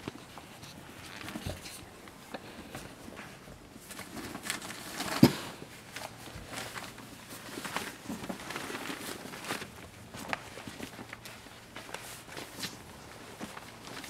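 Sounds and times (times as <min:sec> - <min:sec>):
newspaper rustling and crinkling: 0:00.0 - 0:14.0.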